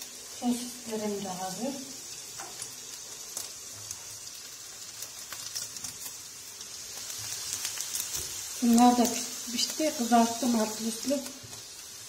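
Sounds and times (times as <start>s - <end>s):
oil sizzling in frying pans: 0.0s - 12.0s.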